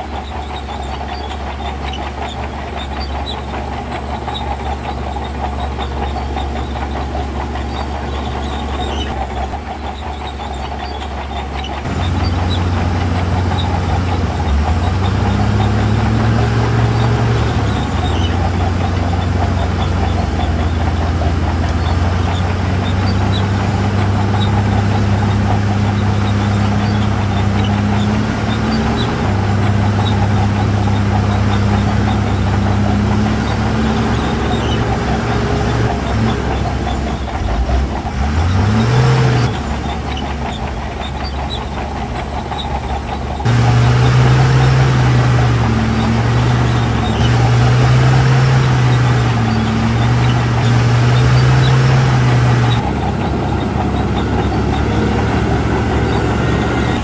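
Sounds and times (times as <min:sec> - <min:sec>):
heavy diesel machine drone: 0:00.0 - 0:57.0.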